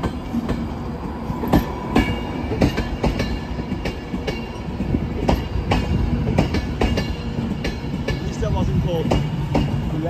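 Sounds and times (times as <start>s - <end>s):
train rumbling past slowly: 0.0s - 10.0s.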